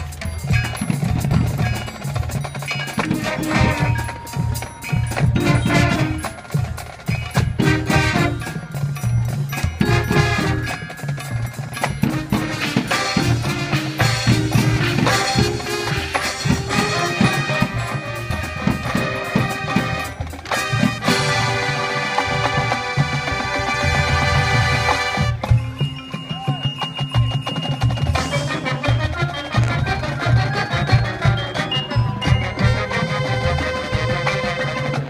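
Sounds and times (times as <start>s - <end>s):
mallet percussion: 0.0s - 35.0s
marching band playing: 0.0s - 35.0s.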